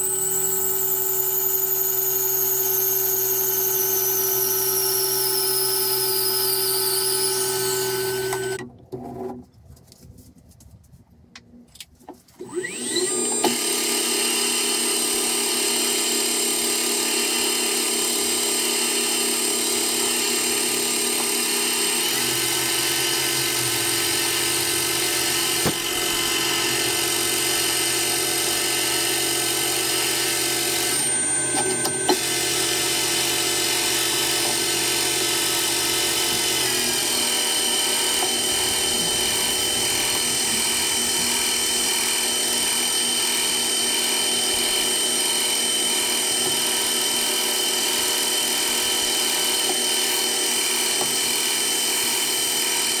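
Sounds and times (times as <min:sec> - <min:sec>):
metal lathe motor and gear whine: 0:00.0 - 0:08.6, 0:12.4 - 0:53.0.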